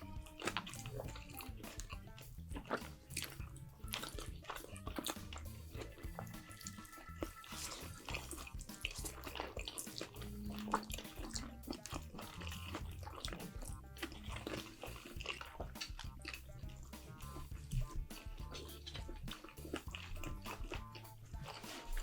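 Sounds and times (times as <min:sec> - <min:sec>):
soft background music: 0:00.0 - 0:22.0
wet chewing mouth sounds: 0:00.0 - 0:22.0.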